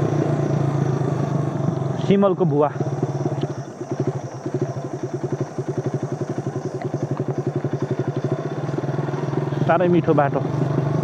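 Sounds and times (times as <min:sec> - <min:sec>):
scooter engine puttering: 0:00.0 - 0:11.0.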